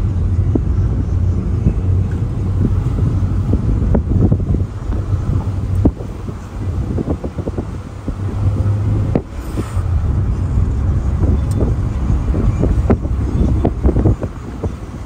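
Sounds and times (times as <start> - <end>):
steady low rumble: 0.0 - 15.0
wind rushing over microphone: 0.0 - 15.0.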